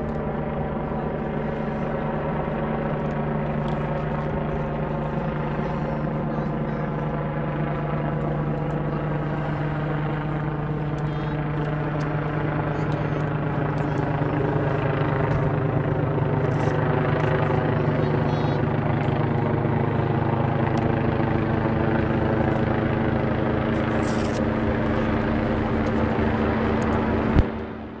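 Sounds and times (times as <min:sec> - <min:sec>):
helicopter engine drone: 0:00.0 - 0:28.0
helicopter rotor beating: 0:00.0 - 0:28.0.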